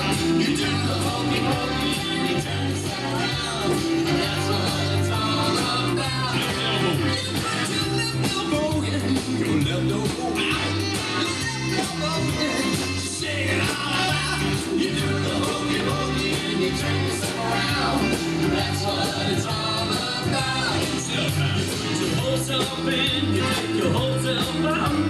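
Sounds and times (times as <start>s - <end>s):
bass line: 0.0s - 25.0s
people singing: 0.0s - 25.0s
upbeat band music: 0.0s - 25.0s.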